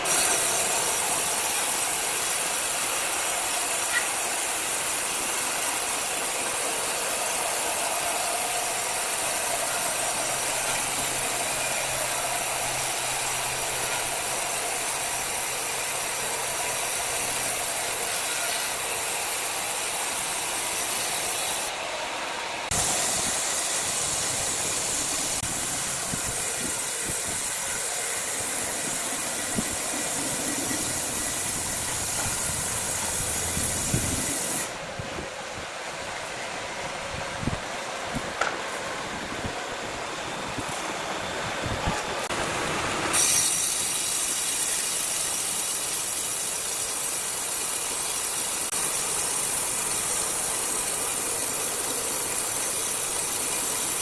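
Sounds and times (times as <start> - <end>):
sawmill saw running: 0.0 - 54.0.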